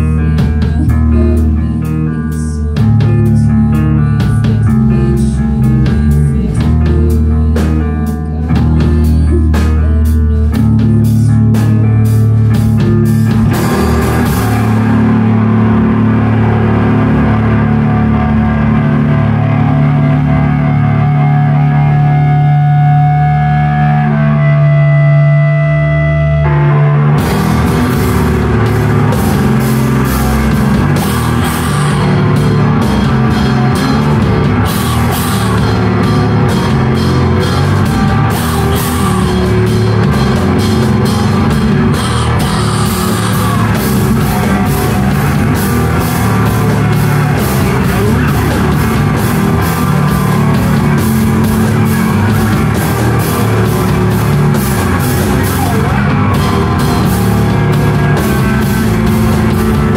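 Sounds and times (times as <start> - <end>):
drum kit beating: 0.0 - 59.9
live rock band playing: 0.0 - 59.9.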